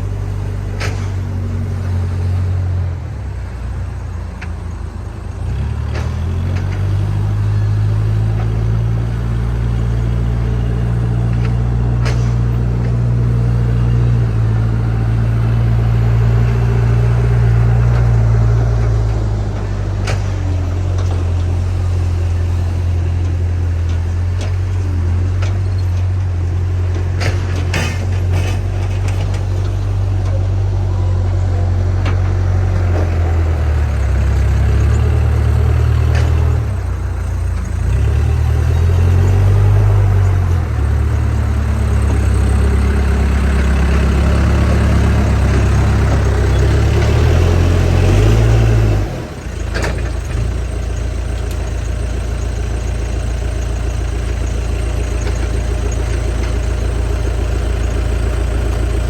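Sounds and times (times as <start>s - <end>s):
backhoe diesel engine running: 0.0s - 59.0s.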